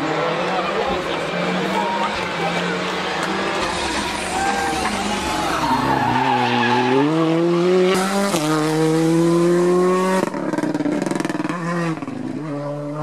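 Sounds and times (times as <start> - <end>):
rally car engine accelerating: 0.0 - 13.0
rough rattling rally car engine: 0.0 - 13.0.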